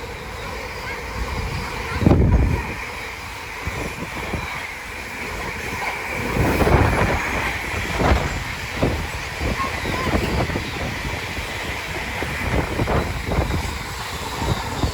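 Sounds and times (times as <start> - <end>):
train rumbling on track: 0.0 - 14.9.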